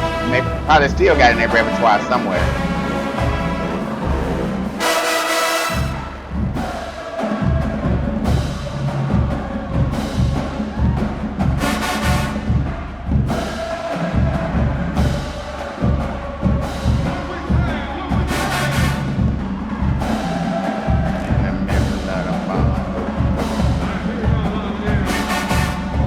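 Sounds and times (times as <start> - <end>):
bass drum beat: 0.0 - 4.9, 5.8 - 26.0
marching band playing: 0.0 - 26.0.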